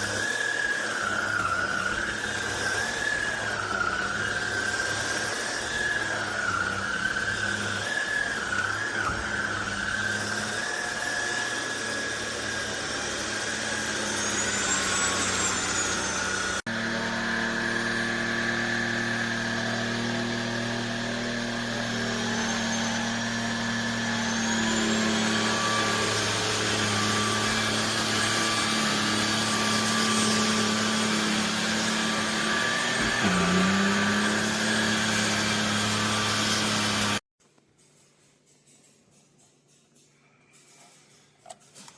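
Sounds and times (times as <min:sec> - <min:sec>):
stick vacuum cleaner motor whine: 0:00.0 - 0:37.2.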